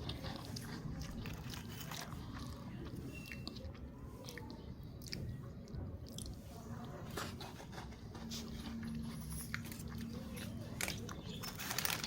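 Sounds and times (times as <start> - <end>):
chewing crunchy biscuits: 0.0 - 12.0.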